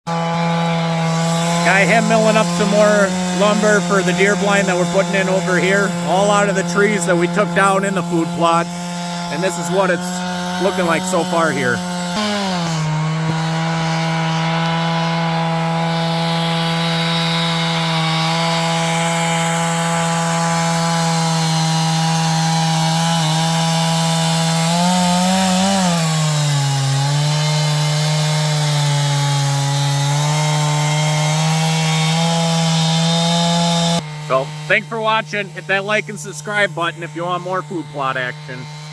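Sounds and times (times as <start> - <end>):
saw cutting through log: 0.1 - 38.9
sawmill engine running: 0.9 - 38.9.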